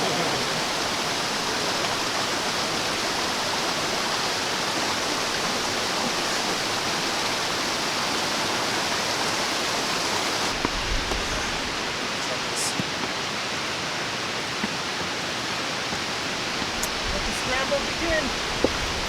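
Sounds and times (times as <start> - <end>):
rushing water roar: 0.0 - 19.0.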